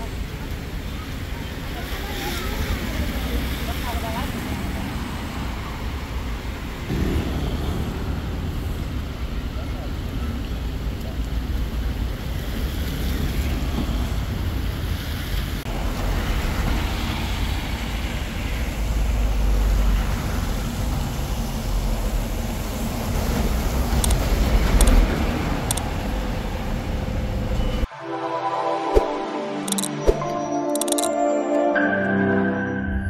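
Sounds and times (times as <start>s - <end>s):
tyres hissing on wet road: 0.0s - 27.6s
low traffic rumble: 0.0s - 27.9s.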